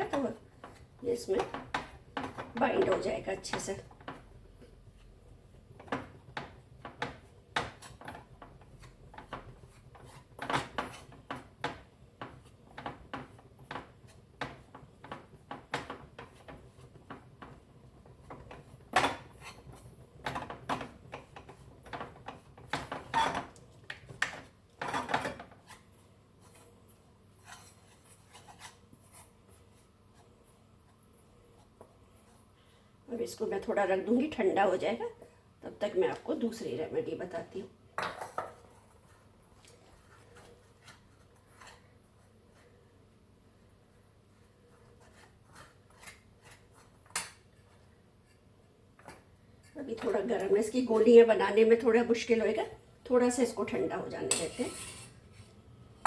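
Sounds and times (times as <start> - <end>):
utensil scraping and stirring in pan: 0.0 - 32.6, 38.1 - 52.4, 53.2 - 56.0.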